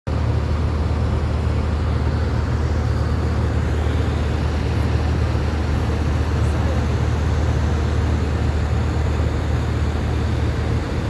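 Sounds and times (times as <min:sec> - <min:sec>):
airliner cabin drone: 0:00.1 - 0:11.0.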